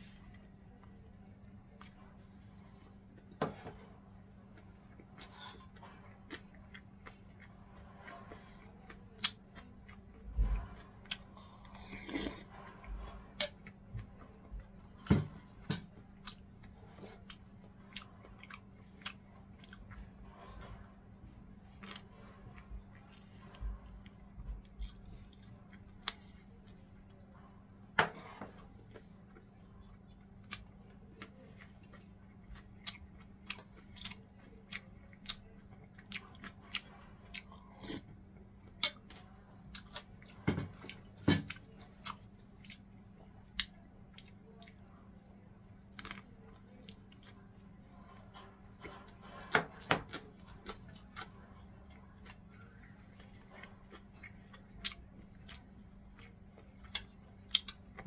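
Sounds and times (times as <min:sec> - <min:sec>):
steady low hum: 0:00.0 - 0:58.0
person chewing: 0:00.1 - 0:27.3, 0:27.9 - 0:58.0.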